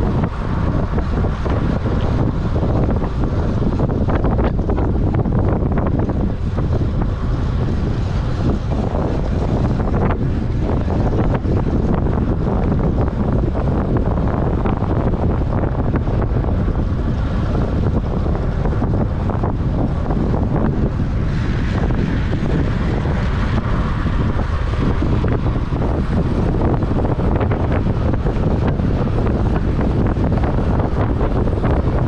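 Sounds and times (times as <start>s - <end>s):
wind rush on microphone: 0.0s - 32.0s.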